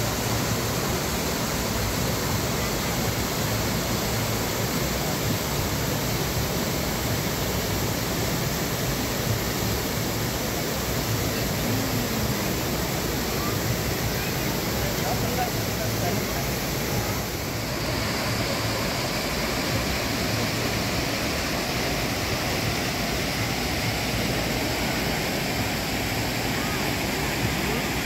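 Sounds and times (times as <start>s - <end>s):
river running over rapids: 0.0s - 28.0s.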